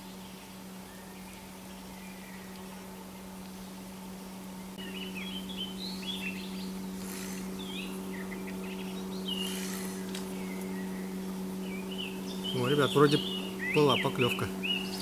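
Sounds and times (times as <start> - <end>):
songbirds chirping: 0.0 - 15.0
steady low hum: 0.0 - 15.0.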